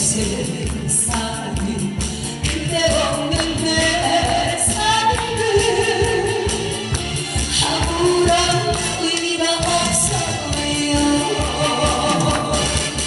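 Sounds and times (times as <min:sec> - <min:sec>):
backing music with beat: 0:00.0 - 0:13.0
person singing live: 0:00.0 - 0:13.0.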